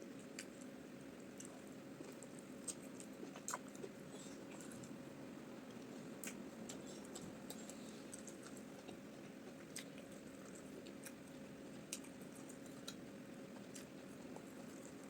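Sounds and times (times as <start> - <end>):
chewing soft food: 0.0 - 15.0.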